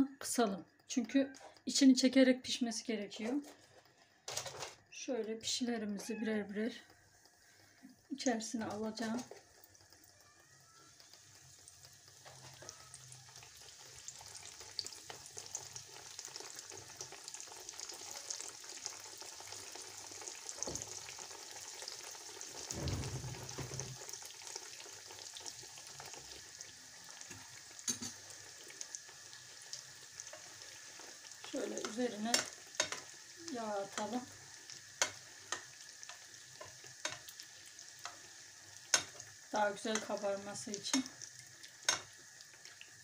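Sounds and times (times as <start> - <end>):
dough sizzling in hot oil: 0.0 - 43.0.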